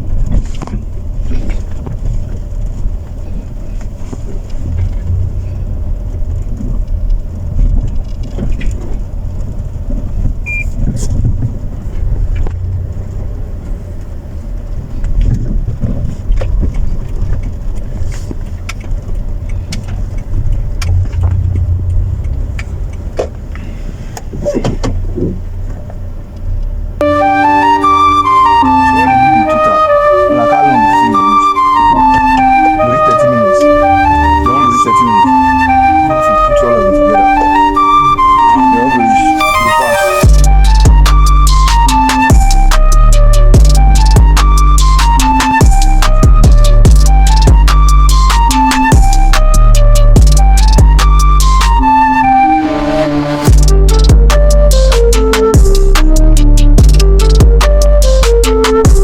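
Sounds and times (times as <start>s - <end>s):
car rumble: 0.0s - 59.0s.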